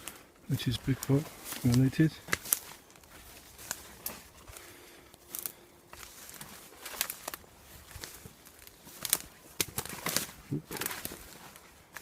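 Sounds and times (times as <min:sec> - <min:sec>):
footsteps on dry twigs and leaves: 0:00.0 - 0:12.0.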